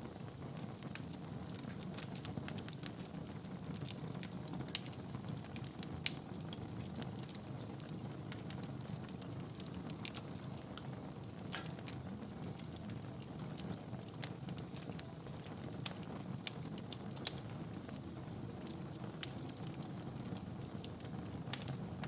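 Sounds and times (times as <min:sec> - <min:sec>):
burning logs crackling and popping: 0:00.0 - 0:22.0
low rumble of flames: 0:00.0 - 0:22.0.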